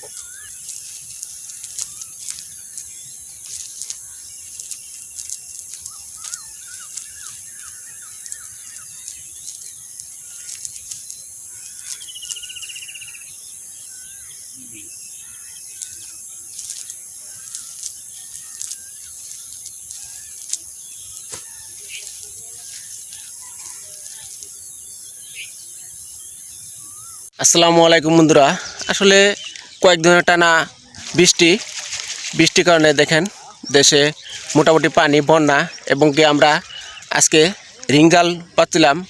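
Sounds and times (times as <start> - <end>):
bird trill: 0.0 - 39.0
high-pitched insect drone: 0.0 - 39.0
small birds chirping: 0.0 - 39.0.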